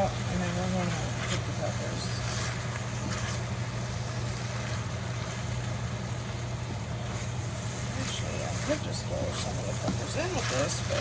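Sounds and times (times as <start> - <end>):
food sizzling in a frying pan: 0.0 - 11.0
steady low hum: 0.0 - 11.0.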